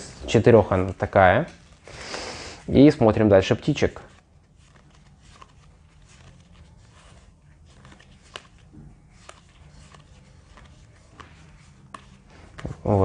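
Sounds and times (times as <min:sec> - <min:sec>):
cards being handled: 0:00.2 - 0:13.0.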